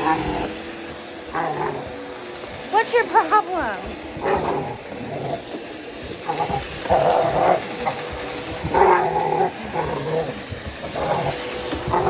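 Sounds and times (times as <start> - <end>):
dog growling and snarling: 0.0 - 2.0, 3.8 - 12.0.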